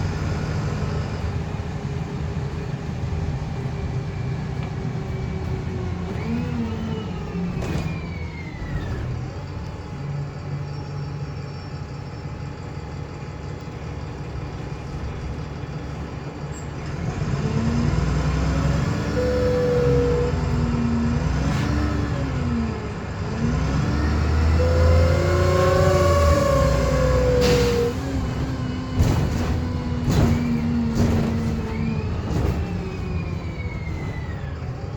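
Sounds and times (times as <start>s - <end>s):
bus engine whirring whine: 0.0s - 34.9s.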